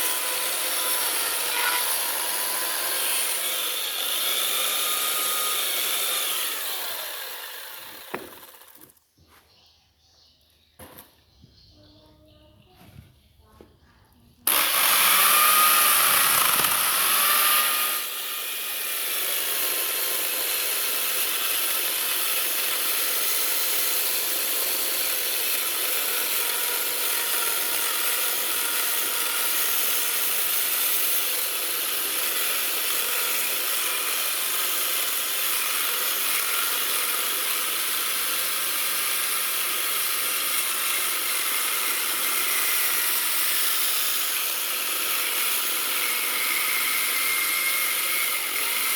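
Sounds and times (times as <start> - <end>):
power tool cutting wood: 0.0 - 9.0, 14.4 - 48.9.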